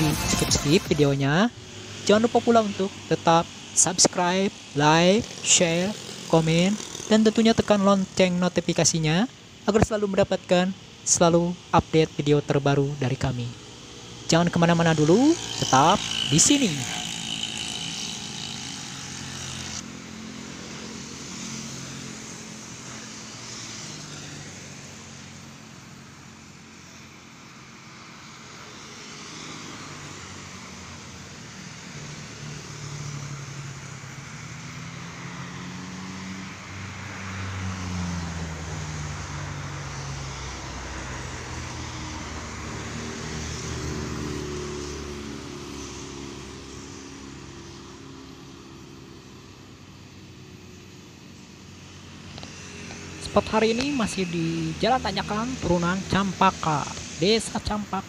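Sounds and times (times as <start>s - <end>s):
loud low engine passing: 0.0s - 9.9s, 11.8s - 58.0s
cars passing: 0.0s - 58.0s
motorcycles passing: 0.0s - 58.0s.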